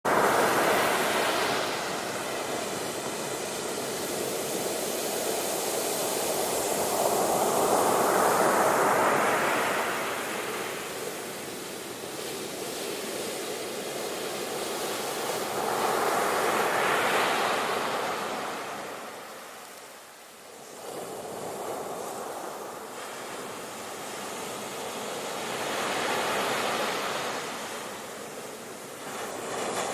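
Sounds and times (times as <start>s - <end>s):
ocean waves washing on shore: 0.1s - 29.9s.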